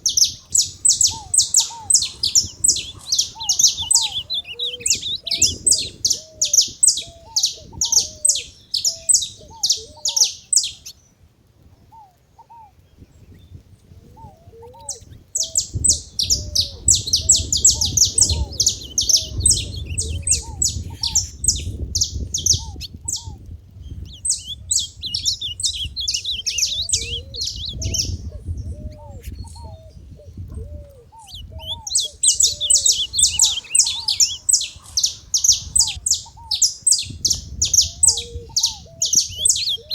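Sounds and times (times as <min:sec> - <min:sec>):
finches chirping: 0:00.0 - 0:11.0, 0:14.8 - 0:23.4, 0:24.0 - 0:30.1, 0:31.1 - 0:39.9
lower arching bird call: 0:00.0 - 0:11.0, 0:14.2 - 0:23.4, 0:24.0 - 0:39.9.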